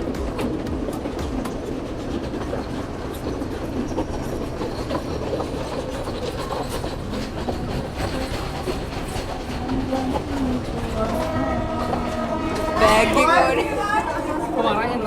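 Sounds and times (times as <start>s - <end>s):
wheels clicking over rails: 0.0s - 14.6s
train rumbling and rattling: 0.0s - 15.0s.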